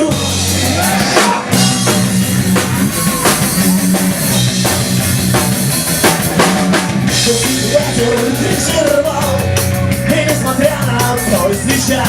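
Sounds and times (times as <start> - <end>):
drum kit steady beat: 0.0 - 12.0
guitar: 0.0 - 12.0
pulsing bass line: 0.0 - 12.0.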